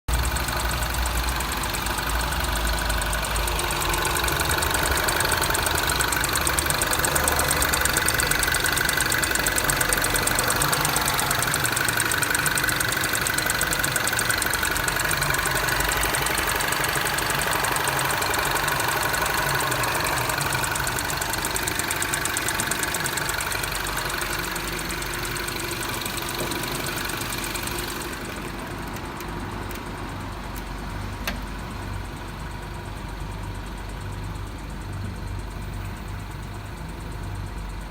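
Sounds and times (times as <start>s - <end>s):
car engine knocking: 0.1s - 37.9s.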